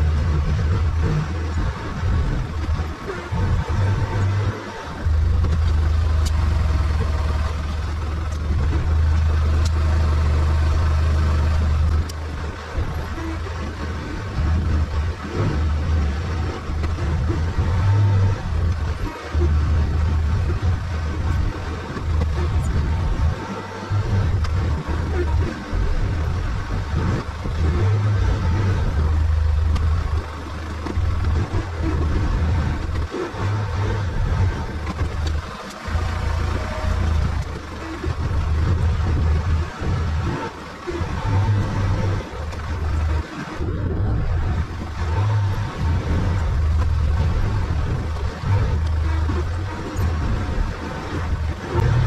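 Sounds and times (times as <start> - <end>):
engine running with low drone: 0.0 - 52.0.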